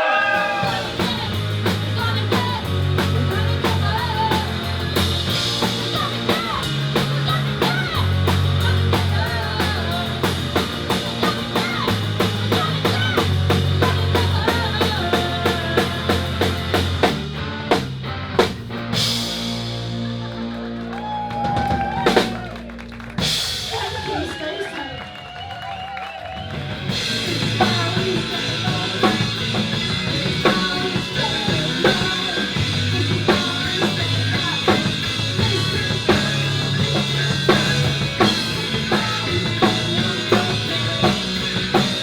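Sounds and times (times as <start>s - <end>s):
live band playing: 0.0s - 42.0s.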